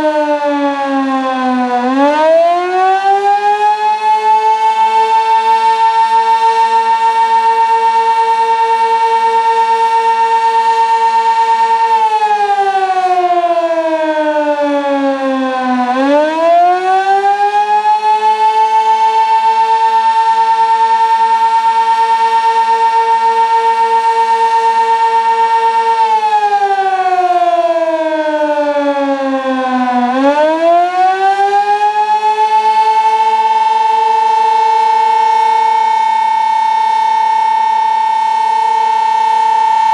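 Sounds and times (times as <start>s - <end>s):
warning siren: 0.0s - 39.9s.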